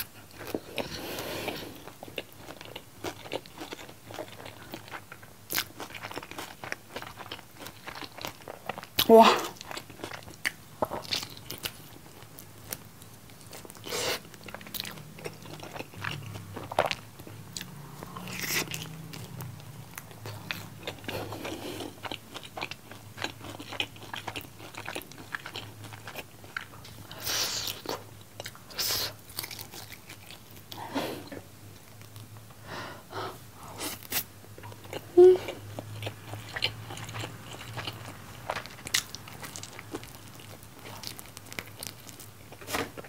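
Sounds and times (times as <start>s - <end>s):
person chewing food: 0.0s - 32.3s, 33.7s - 43.0s
faint low hum: 0.0s - 43.0s.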